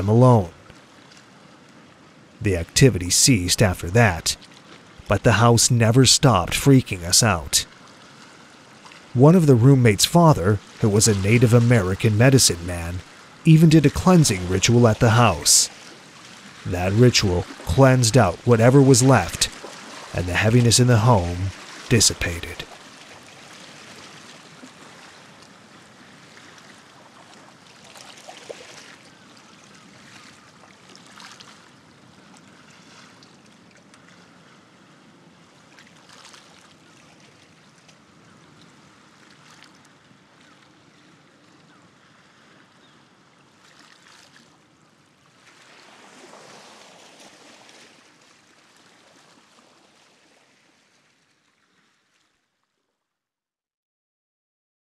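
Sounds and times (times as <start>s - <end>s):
ocean waves breaking on beach: 0.0s - 51.4s.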